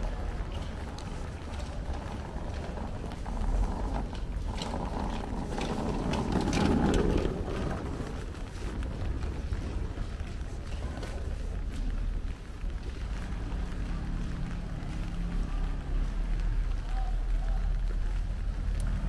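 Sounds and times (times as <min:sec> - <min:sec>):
low rumble: 0:00.0 - 0:19.0
traffic going by: 0:00.0 - 0:19.0
vehicle passing: 0:00.0 - 0:19.0.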